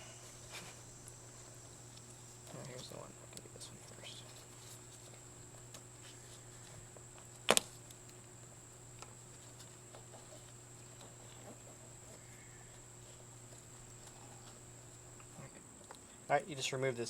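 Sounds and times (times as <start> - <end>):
faint handling ticks: 0.0 - 17.0.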